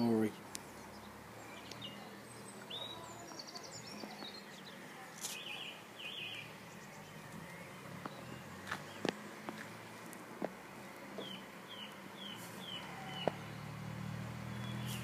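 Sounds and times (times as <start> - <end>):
birds chirping: 0.0 - 15.0
low outdoor hum: 0.0 - 15.0.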